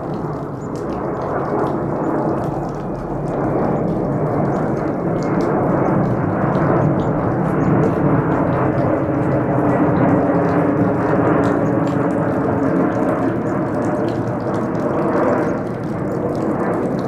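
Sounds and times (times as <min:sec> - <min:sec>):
jet engines passing overhead: 0:00.0 - 0:17.0.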